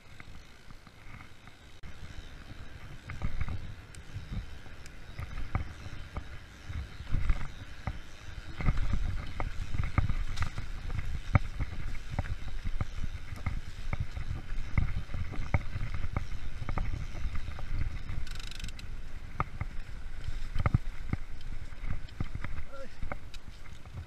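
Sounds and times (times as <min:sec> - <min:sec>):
bike rattling and knocking: 0:00.0 - 0:24.0
bike tyres rumbling on trail: 0:00.0 - 0:24.0.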